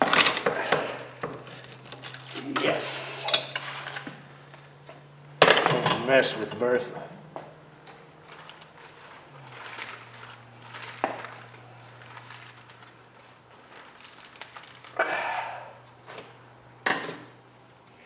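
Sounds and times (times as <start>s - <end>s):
wire scraping and rustling: 0.0s - 5.1s, 6.0s - 16.8s.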